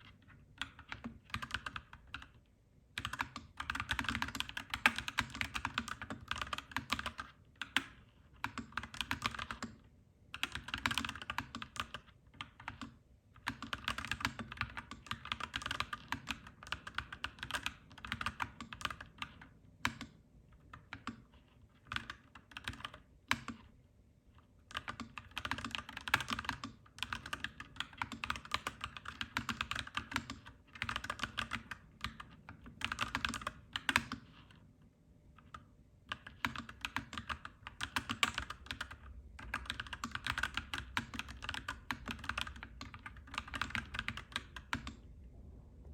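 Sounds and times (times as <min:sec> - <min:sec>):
mechanical keyboard typing: 0:00.0 - 0:02.4, 0:03.0 - 0:23.7, 0:24.7 - 0:34.6, 0:35.4 - 0:45.1.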